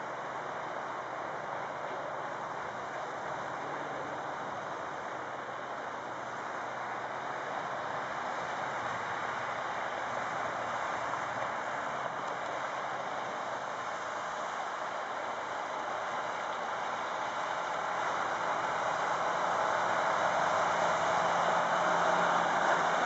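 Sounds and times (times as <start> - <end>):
distant diesel truck drone: 0.0 - 23.0.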